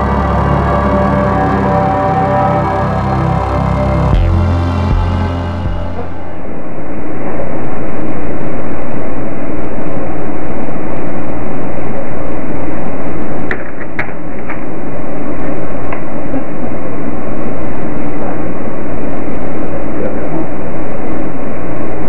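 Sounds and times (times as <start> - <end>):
microphone hiss and hum: 0.0 - 22.0.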